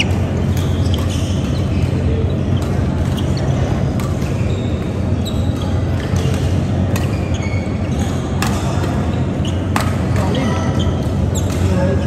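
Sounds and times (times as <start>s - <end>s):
racket hitting shuttlecock: 0.0s - 11.8s
shoes squeaking on court floor: 0.0s - 12.0s.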